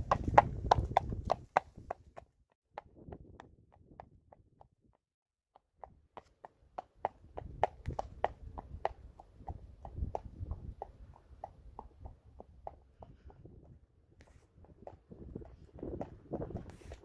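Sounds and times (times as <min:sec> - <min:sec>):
horse hooves clip-clopping on asphalt: 0:00.0 - 0:17.0.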